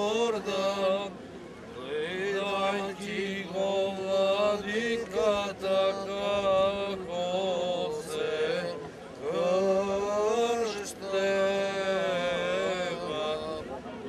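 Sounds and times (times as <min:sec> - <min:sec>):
men chanting a liturgical hymn: 0:00.0 - 0:14.0.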